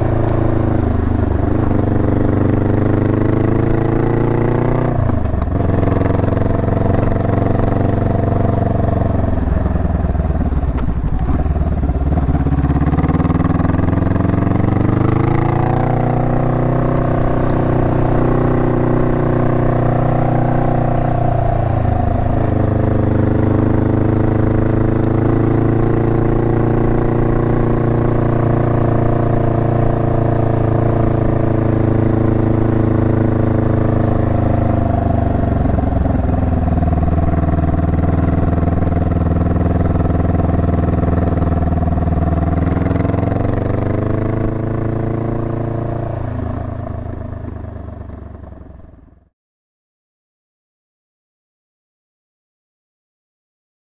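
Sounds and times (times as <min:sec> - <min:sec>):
motorcycle engine with gear changes: 0:00.0 - 0:49.3.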